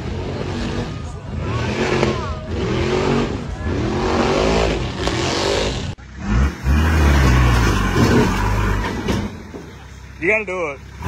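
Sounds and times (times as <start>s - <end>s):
engine revving in rumbling surges: 0.0s - 11.0s
truck engine at high revs: 0.0s - 11.0s.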